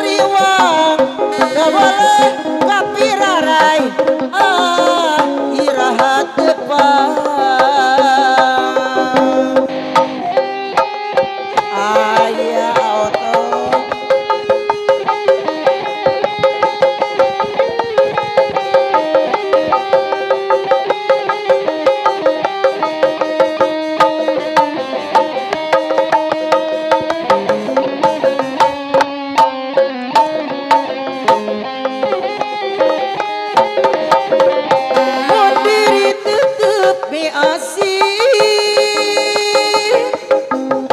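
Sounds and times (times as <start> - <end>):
wavering melody instrument: 0.0 - 40.9.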